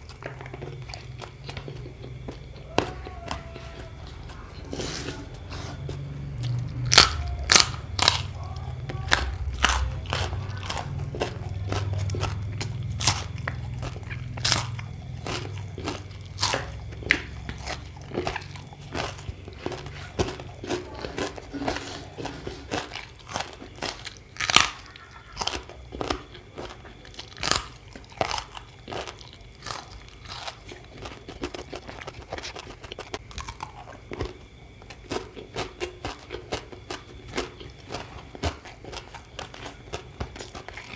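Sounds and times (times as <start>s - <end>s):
crunching and chewing crisp food: 0.0s - 40.9s.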